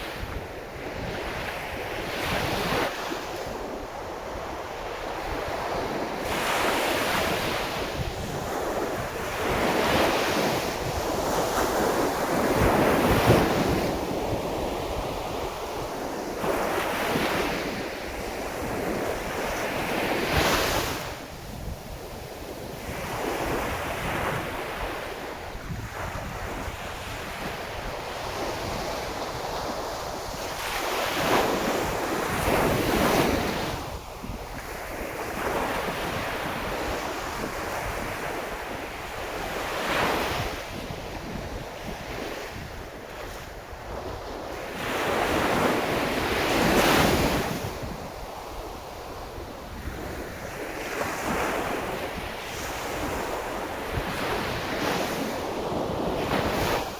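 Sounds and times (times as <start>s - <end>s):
sea waves breaking on shore: 0.0s - 56.9s
wind buffeting microphone: 0.0s - 56.9s.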